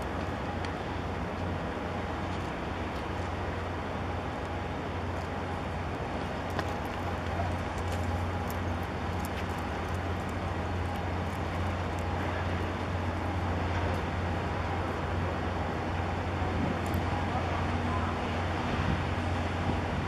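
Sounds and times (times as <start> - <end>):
rushing water noise: 0.0 - 20.0
ship low hum: 0.0 - 20.0.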